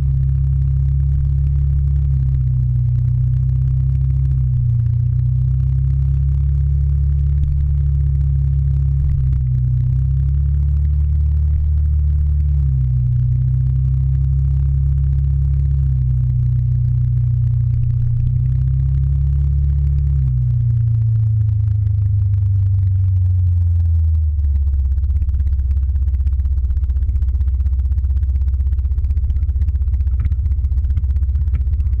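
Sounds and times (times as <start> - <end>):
scooter engine running: 0.0 - 32.0.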